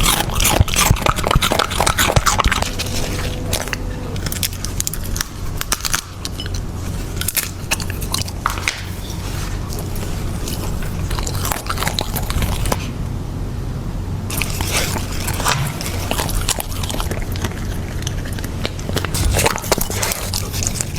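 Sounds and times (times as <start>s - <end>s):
puppy crunching a carrot: 0.0s - 13.0s, 14.3s - 20.9s.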